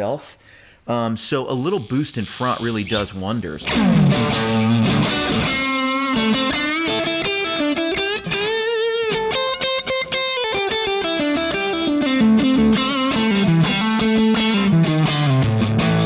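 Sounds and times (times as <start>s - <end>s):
distorted electric guitar lead: 1.9s - 16.0s.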